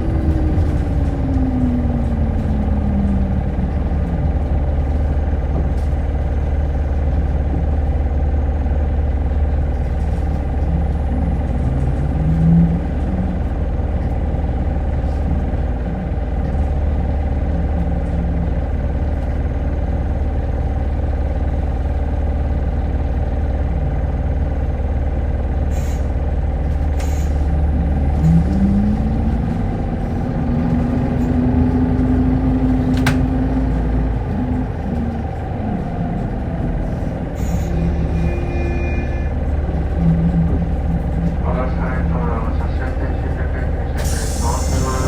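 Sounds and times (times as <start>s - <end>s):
bus engine drone: 0.0s - 45.0s
bus motor whine: 0.0s - 45.0s.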